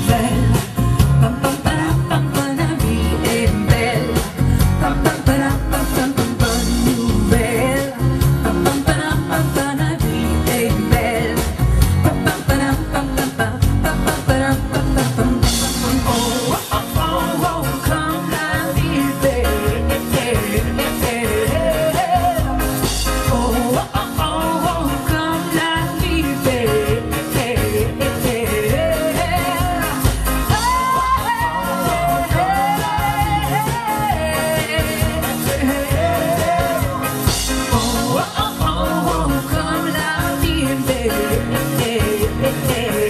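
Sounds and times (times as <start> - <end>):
pop-rock band playing: 0.0 - 43.0
woman singing: 0.0 - 43.0.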